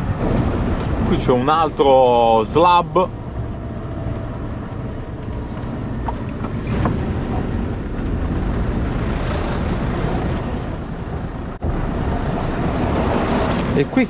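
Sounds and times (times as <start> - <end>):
truck engine and tyres rumbling: 0.0 - 14.0.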